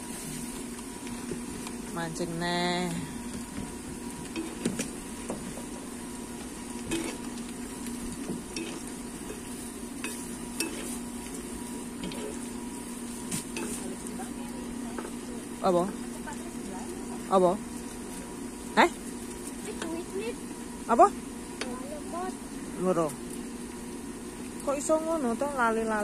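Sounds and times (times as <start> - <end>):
oil sizzling: 0.0 - 26.0.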